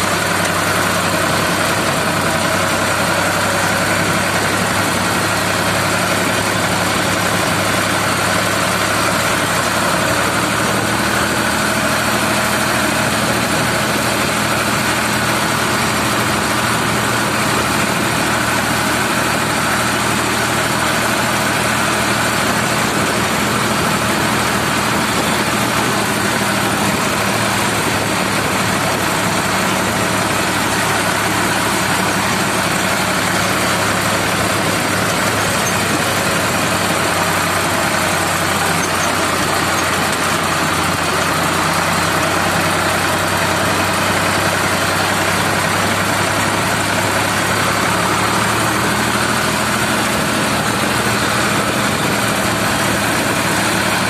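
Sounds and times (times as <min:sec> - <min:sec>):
tractor engine humming: 0:00.0 - 0:54.0.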